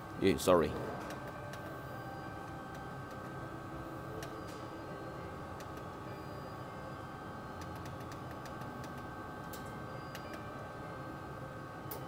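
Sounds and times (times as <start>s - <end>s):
printer humming and whining: 0.0s - 12.0s.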